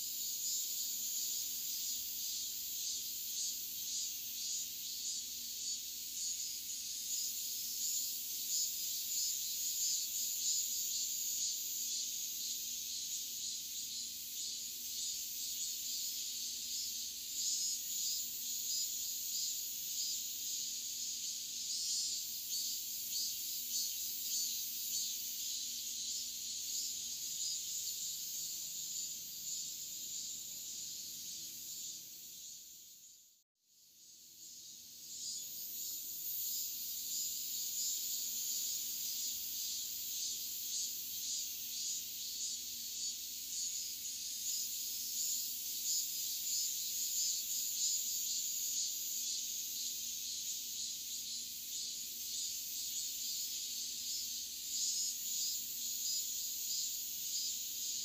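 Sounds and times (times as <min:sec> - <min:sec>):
cicadas buzzing: 0:00.0 - 0:58.0.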